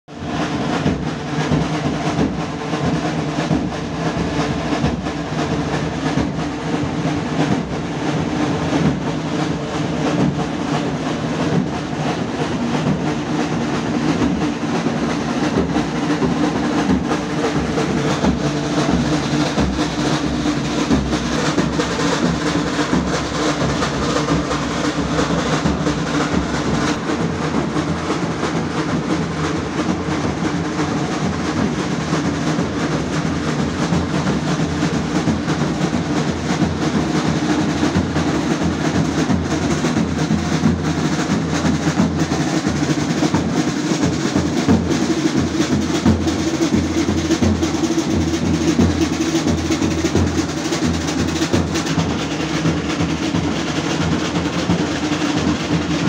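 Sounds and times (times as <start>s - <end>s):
drums with rapid rolls: 0.0s - 56.0s.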